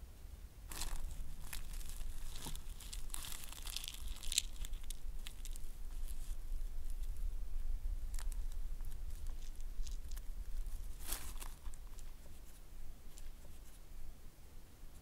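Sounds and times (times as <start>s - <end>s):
low steady rumble: 0.0s - 15.0s
faint rustling: 0.7s - 14.3s.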